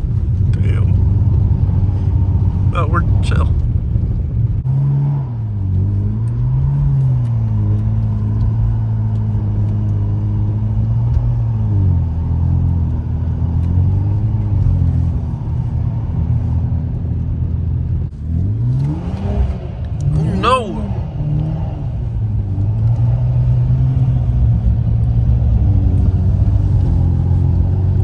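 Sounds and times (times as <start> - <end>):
car engine running: 0.0 - 28.0
low road rumble: 0.0 - 28.0.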